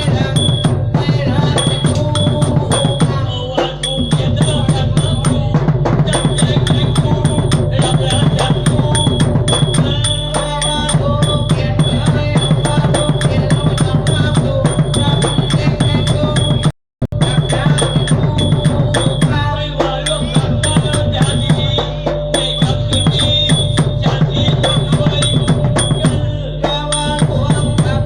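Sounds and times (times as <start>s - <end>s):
fast dense drumming: 0.0s - 28.0s.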